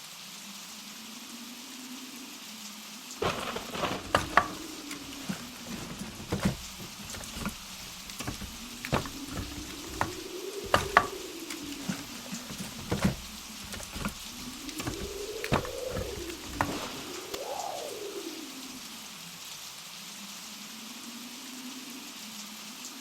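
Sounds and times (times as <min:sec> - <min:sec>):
blizzard wind howling: 0:03.2 - 0:22.2.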